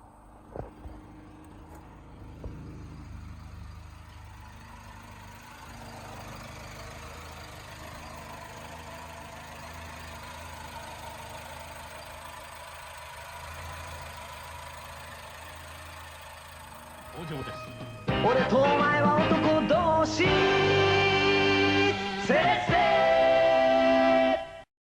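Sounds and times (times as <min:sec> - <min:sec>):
car engine idling: 0:00.0 - 0:24.1.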